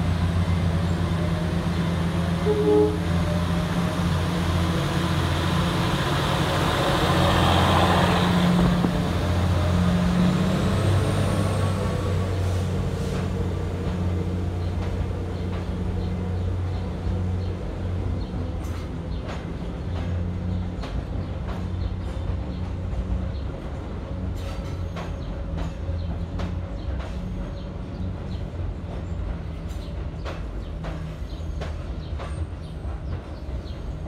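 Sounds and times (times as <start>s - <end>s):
diesel locomotive engine humming: 0.0s - 34.0s
steel wheels rumbling on rails: 0.0s - 34.0s.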